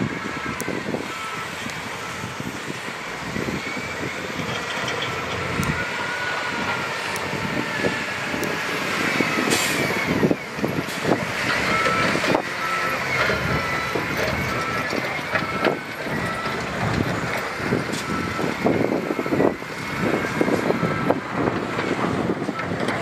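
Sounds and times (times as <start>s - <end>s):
reversing alarm beeping: 0.0s - 21.5s
diesel machinery running: 0.0s - 23.0s.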